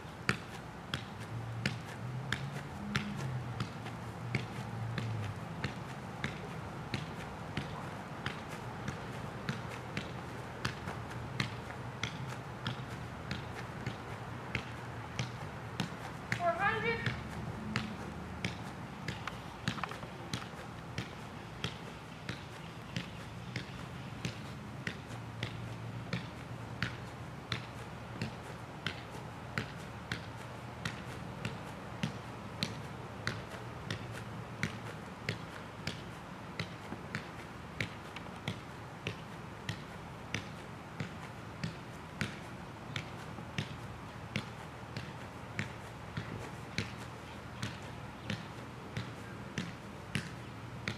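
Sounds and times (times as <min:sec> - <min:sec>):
foot tapping a soccer ball: 0:00.2 - 0:50.9.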